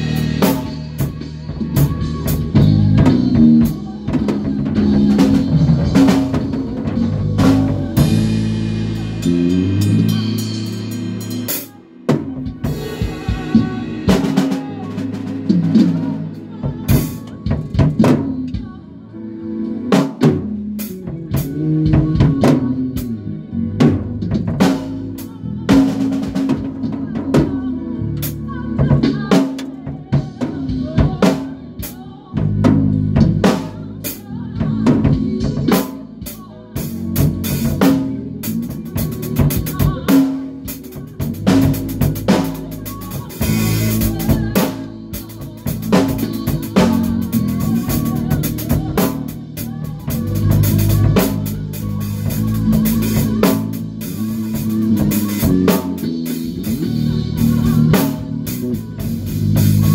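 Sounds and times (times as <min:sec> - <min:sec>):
bass guitar low notes: 0:00.0 - 0:11.5, 0:19.5 - 0:29.3, 0:29.9 - 0:59.9
drum kit playing a beat: 0:00.0 - 0:18.9, 0:19.6 - 0:59.9.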